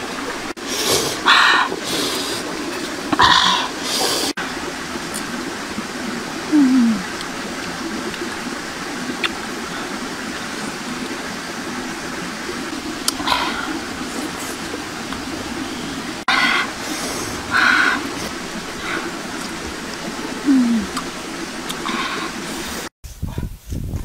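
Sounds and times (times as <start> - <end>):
steady rushing noise: 0.0 - 22.9.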